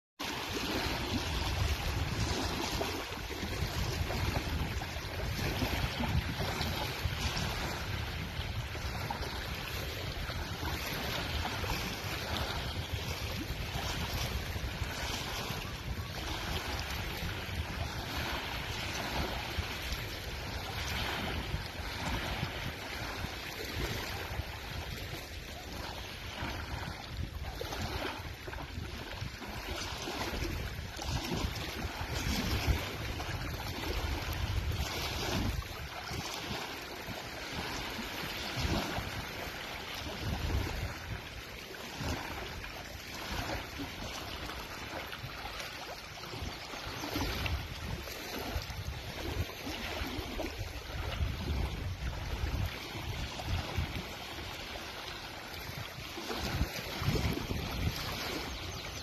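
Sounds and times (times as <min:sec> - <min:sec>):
lake waves lapping: 0:00.2 - 0:59.0
wind rumbling on microphone: 0:00.2 - 0:59.0.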